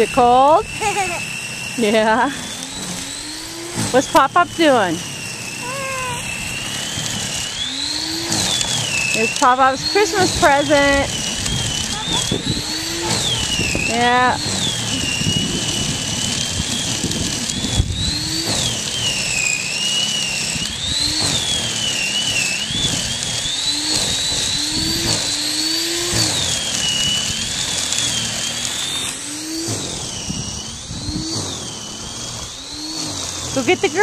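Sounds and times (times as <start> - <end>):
electric snow thrower motor whine: 0.0 - 34.0.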